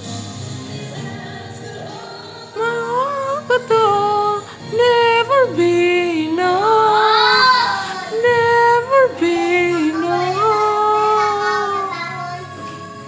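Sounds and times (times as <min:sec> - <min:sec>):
woman singing wordless melody: 0:00.6 - 0:13.0.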